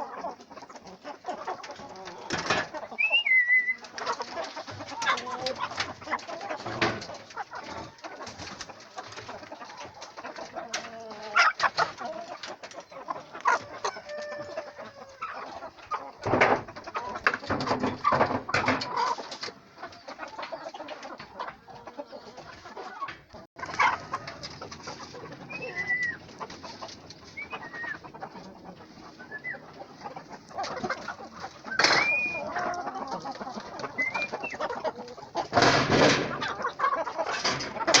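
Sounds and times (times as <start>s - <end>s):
chickens clucking and roosters calling: 0.0s - 38.0s.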